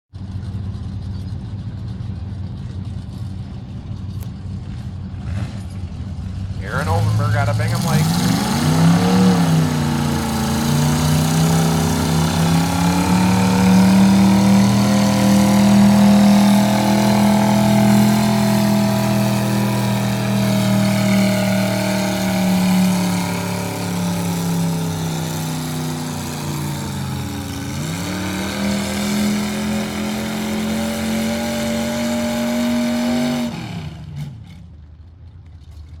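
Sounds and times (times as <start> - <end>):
truck engine at high revs: 0.1 - 35.2.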